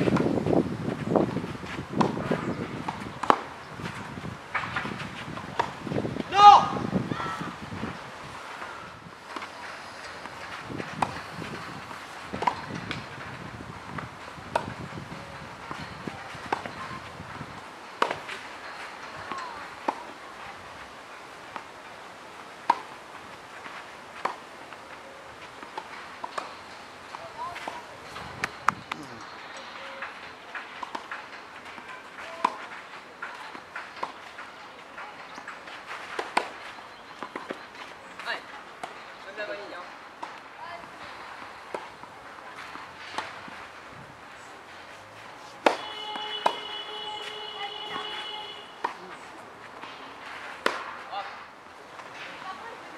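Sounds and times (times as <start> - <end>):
footsteps on clay court: 0.0 - 52.9
tennis balls struck with rackets: 0.0 - 52.9.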